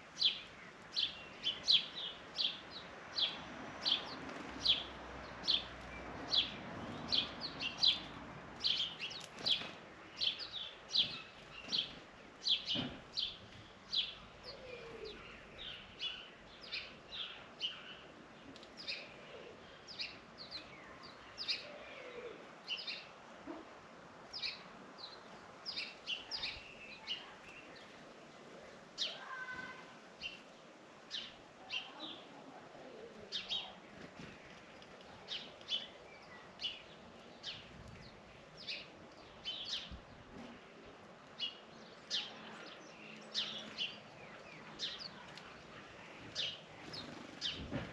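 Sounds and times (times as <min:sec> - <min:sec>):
small birds chirping: 0:00.1 - 0:23.2, 0:24.2 - 0:47.9.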